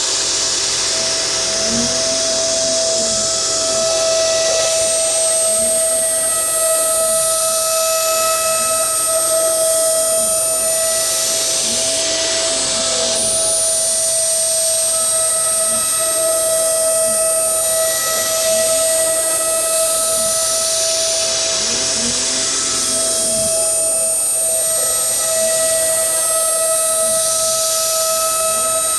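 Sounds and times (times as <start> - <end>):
router spindle whine: 0.0 - 28.9
low motor tone: 0.4 - 28.9.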